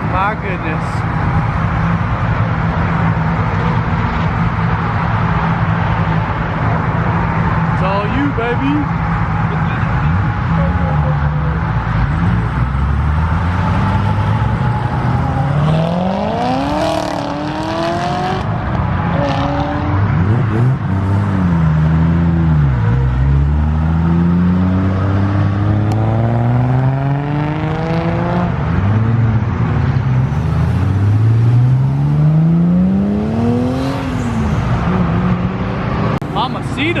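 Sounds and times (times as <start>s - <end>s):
cars revving and accelerating: 0.0s - 37.0s.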